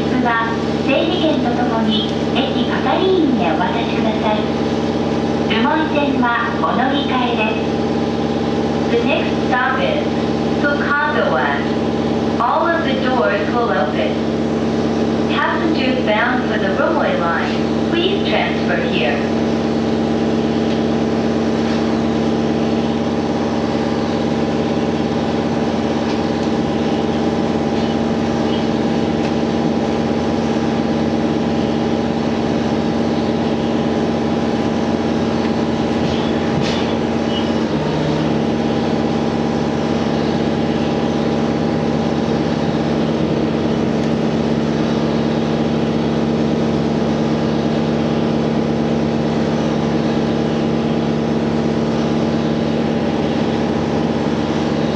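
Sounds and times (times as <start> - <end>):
railcar engine hum: 0.0 - 54.9
train running noise: 0.0 - 54.9.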